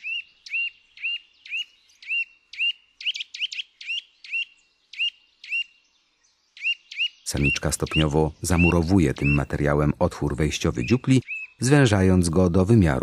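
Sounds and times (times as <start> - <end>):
nuthatch calling: 0.0 - 9.9, 10.5 - 11.6.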